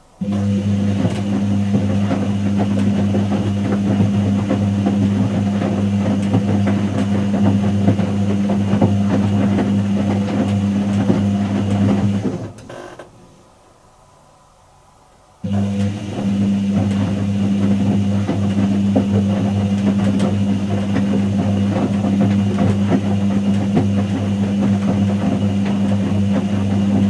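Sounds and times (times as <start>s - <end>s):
washing machine motor humming: 0.1s - 13.0s, 15.4s - 27.0s
rattling and sloshing drum: 0.9s - 12.6s, 15.8s - 27.0s.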